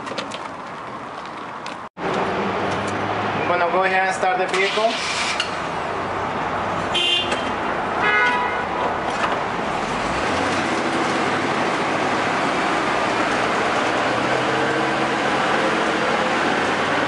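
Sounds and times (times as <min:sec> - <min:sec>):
van engine starting and running: 0:01.1 - 0:08.0, 0:08.7 - 0:17.0.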